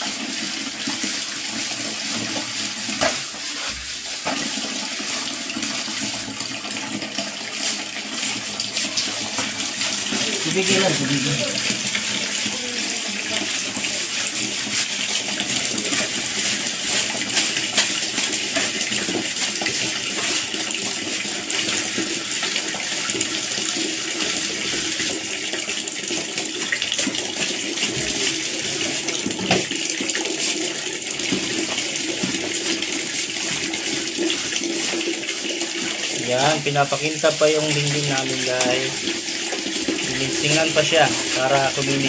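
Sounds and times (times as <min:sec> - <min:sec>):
water pouring into plastic bucket: 0:00.0 - 0:42.0.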